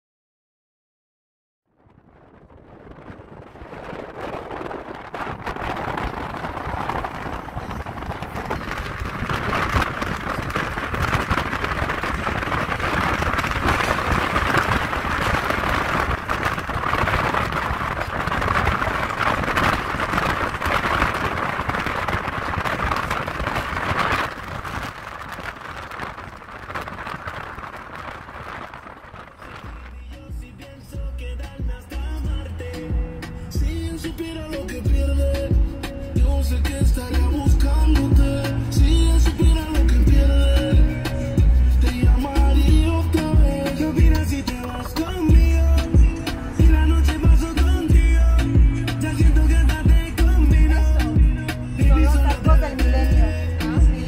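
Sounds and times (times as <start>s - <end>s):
wind and road noise: 1.7s - 54.0s.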